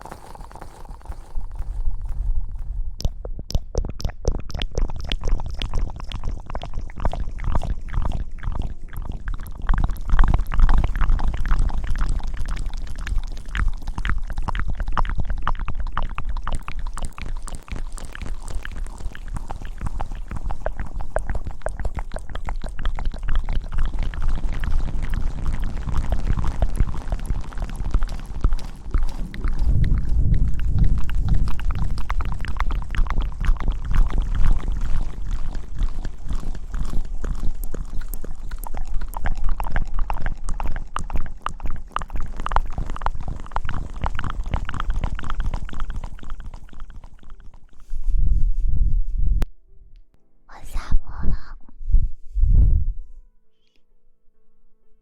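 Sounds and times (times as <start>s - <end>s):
wet crackles and squishes: 0.0s - 48.1s
low rumble: 0.0s - 53.2s.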